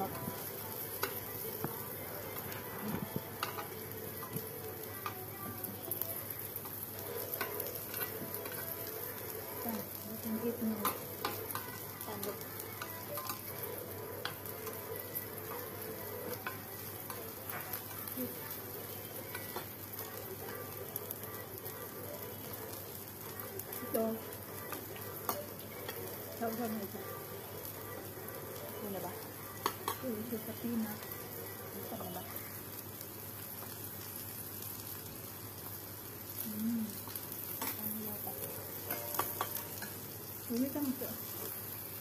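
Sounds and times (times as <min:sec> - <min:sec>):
meat sizzling on grill: 0:00.0 - 0:42.0.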